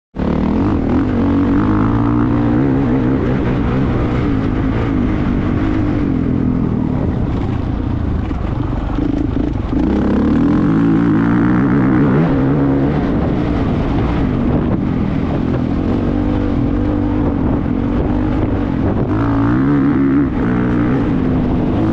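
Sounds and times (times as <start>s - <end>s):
motocross bike engine revving: 0.2s - 7.4s, 8.8s - 21.9s.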